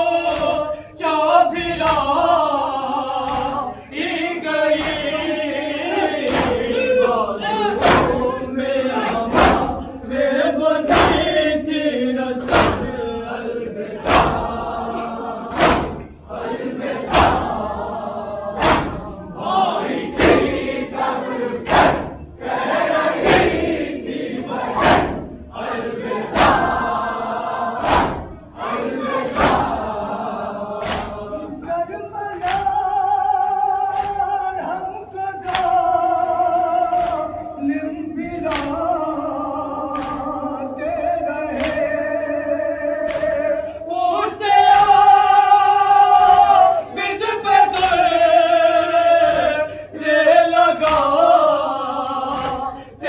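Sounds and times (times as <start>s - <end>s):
men chanting in unison: 0.0s - 53.0s.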